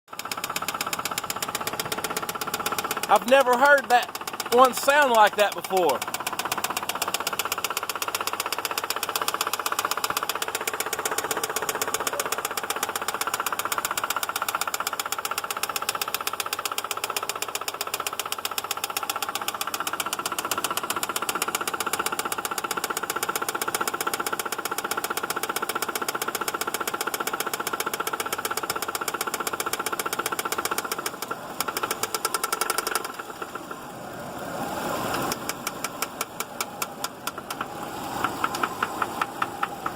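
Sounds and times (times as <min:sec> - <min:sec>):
car engine knocking: 0:00.1 - 0:34.0, 0:34.9 - 0:39.9.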